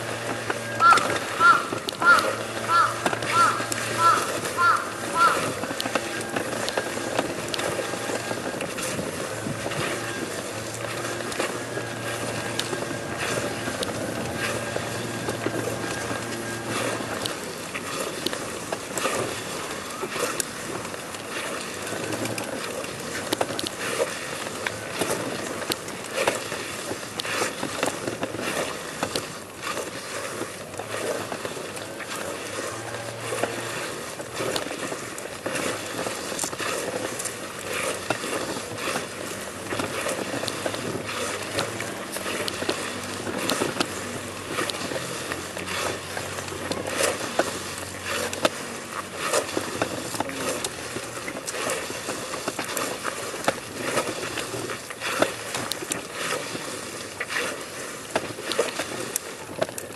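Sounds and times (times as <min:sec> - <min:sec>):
small irregular clicks: 0:00.2 - 0:32.6, 0:33.3 - 0:59.9.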